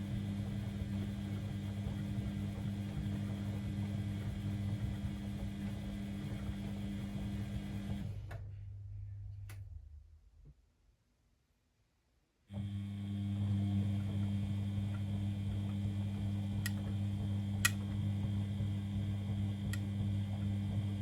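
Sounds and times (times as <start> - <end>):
washing machine humming: 0.0 - 8.7, 12.6 - 21.0.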